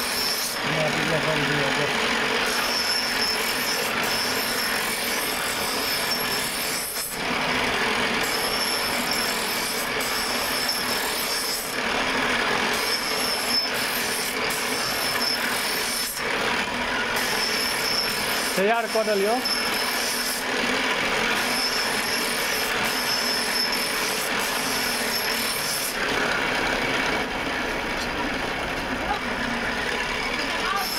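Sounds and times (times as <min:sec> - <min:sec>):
scissor blade on grinding wheel: 0:00.0 - 0:30.9.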